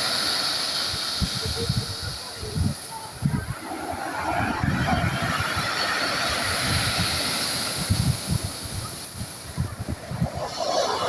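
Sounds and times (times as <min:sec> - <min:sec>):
sea waves washing in: 0:00.0 - 0:11.0
wind buffeting microphone: 0:00.8 - 0:11.0.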